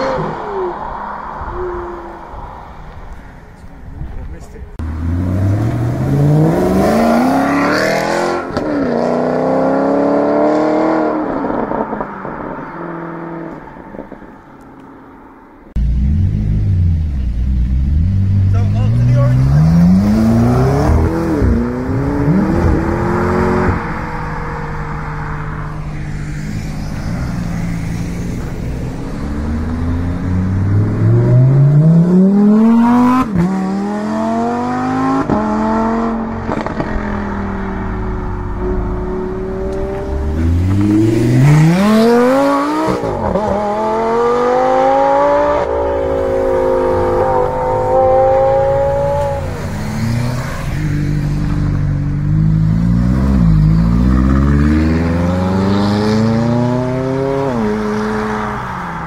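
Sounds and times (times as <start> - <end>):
sports cars accelerating hard: 4.8 - 14.5, 17.8 - 59.0.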